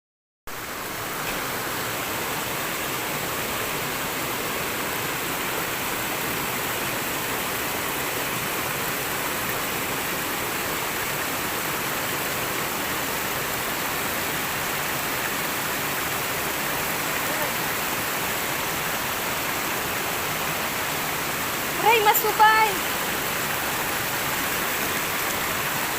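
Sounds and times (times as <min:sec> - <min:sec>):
stream water flowing: 0:00.5 - 0:25.9.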